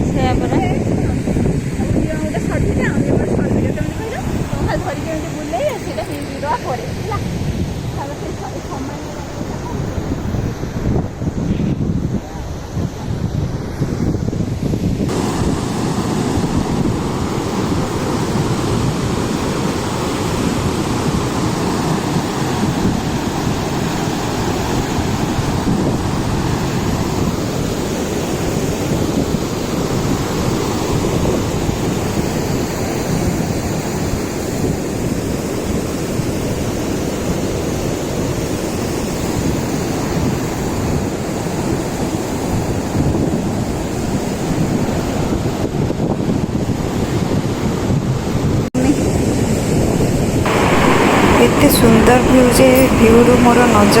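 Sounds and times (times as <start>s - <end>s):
waterfall roaring: 0.0s - 13.5s, 14.1s - 54.0s.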